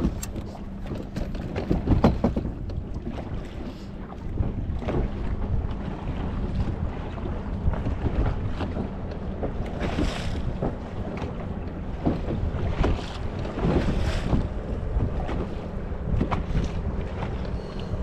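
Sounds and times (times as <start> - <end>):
low boat rumble: 0.0 - 18.0
water splashing against hull: 0.0 - 18.0
wind buffeting microphone: 0.0 - 18.0.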